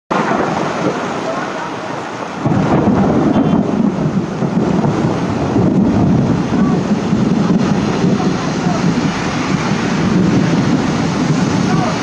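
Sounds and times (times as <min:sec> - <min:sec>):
heavy rain on a road: 0:00.1 - 0:12.0
low rumble: 0:02.0 - 0:12.0.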